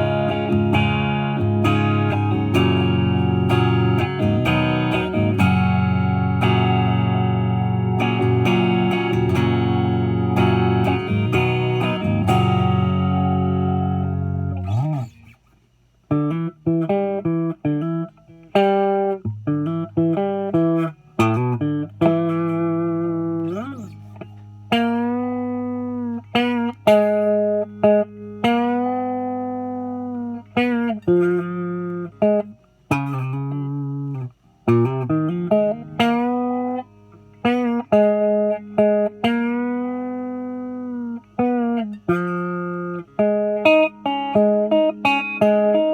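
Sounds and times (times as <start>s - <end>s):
electric guitar picked notes and bends: 0.0s - 15.4s, 16.1s - 45.9s
electric guitar strummed chords: 0.0s - 15.4s, 16.1s - 45.9s.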